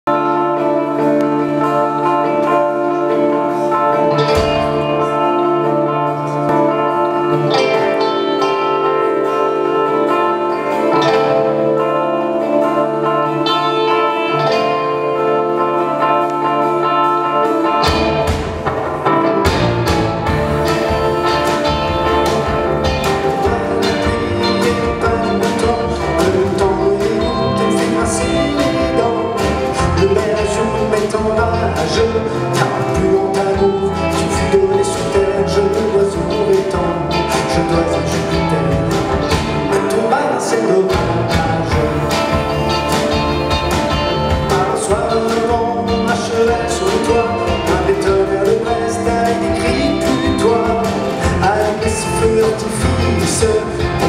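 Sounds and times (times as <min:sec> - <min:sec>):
bass guitar: 0:00.0 - 0:54.0
electric guitars playing: 0:00.0 - 0:54.0
drums playing a steady beat: 0:00.1 - 0:54.0.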